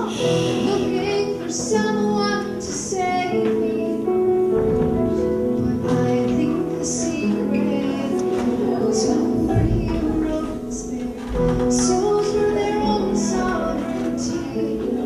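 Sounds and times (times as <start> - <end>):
children and woman singing: 0.0 - 4.2, 5.6 - 15.0
piano accompaniment: 0.0 - 15.0.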